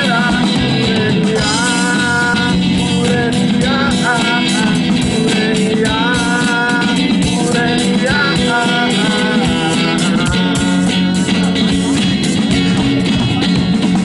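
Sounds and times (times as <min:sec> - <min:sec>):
instrumental rock band music: 0:00.0 - 0:14.0.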